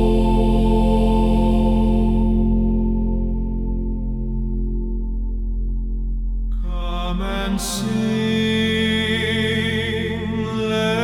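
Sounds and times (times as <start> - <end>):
ambient music with held chord: 0.0 - 11.0.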